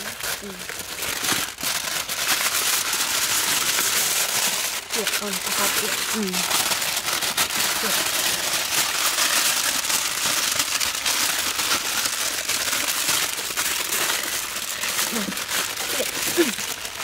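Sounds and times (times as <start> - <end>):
aluminium foil crinkling: 0.0 - 17.0.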